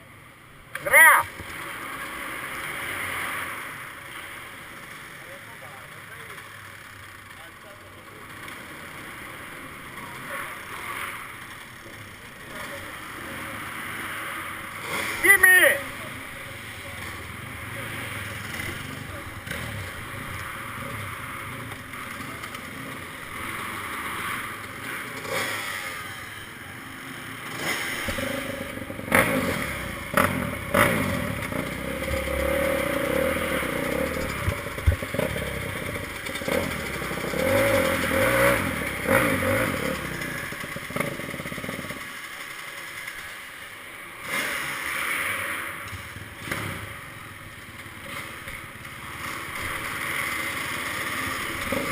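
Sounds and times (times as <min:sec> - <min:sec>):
motocross bike engine revving: 0:00.8 - 0:51.9.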